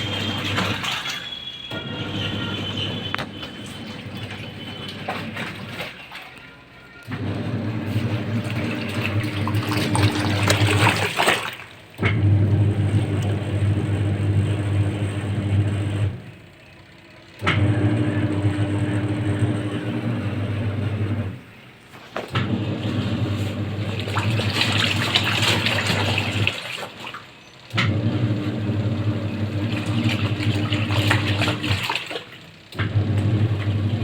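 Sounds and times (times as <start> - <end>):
washing machine churning: 0.0 - 34.0.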